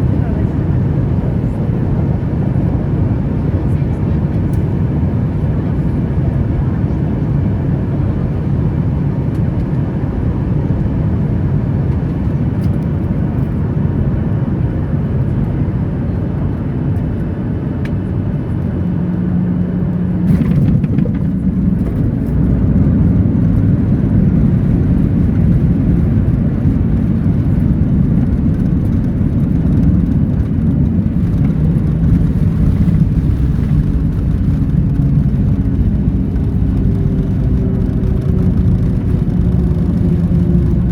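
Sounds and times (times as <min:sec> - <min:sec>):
jet engine cabin noise: 0:00.0 - 0:40.9.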